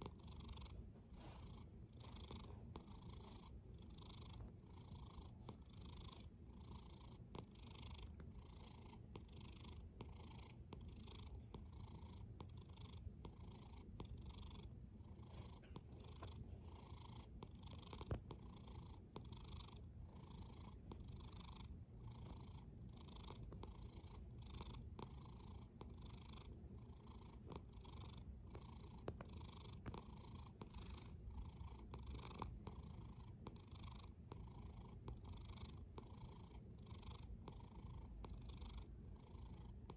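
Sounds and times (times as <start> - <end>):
cat snoring softly: 0.0 - 39.9
low purr-like rumble: 0.0 - 39.9.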